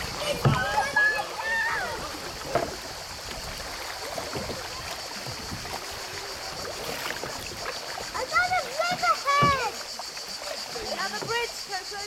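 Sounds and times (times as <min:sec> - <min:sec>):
river water rushing and trickling: 0:00.0 - 0:12.0
small water splashes: 0:00.0 - 0:12.0.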